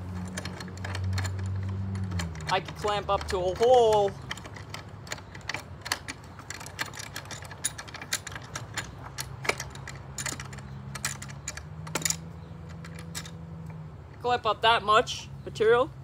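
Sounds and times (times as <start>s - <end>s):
metal vise clicking and rattling: 0.0s - 14.2s.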